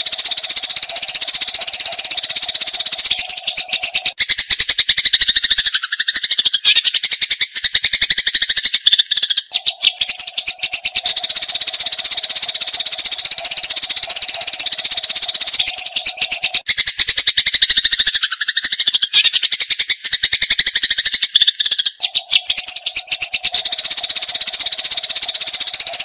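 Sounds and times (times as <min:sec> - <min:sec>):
sparrows chattering: 0:00.0 - 0:26.0.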